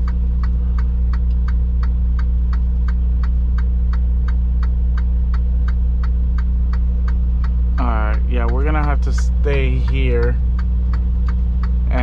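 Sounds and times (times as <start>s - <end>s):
diesel engine idling: 0.0s - 12.0s
turn signal ticking: 0.0s - 12.0s.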